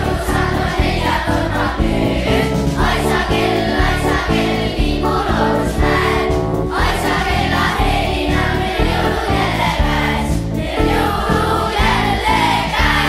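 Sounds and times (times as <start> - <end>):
children singing in unison: 0.0 - 13.0
instrumental accompaniment with beat: 0.0 - 13.0.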